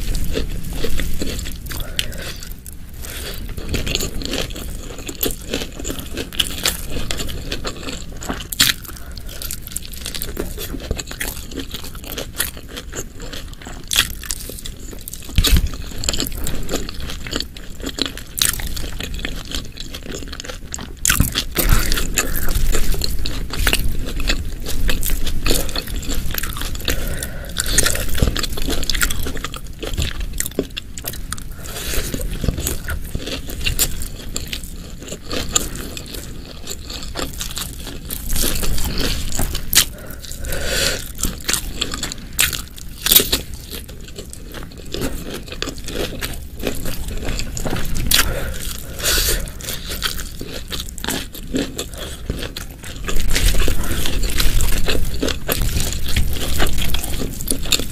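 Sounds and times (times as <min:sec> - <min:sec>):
chewing with small crunches: 0:00.0 - 0:57.9.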